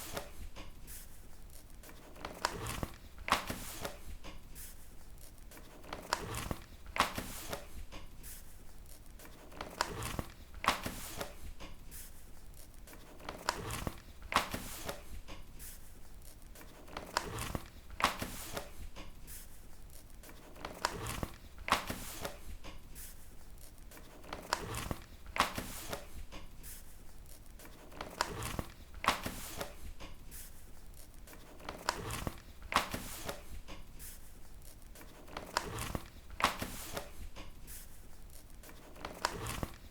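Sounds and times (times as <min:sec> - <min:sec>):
book pages turning: 0:00.0 - 0:39.9.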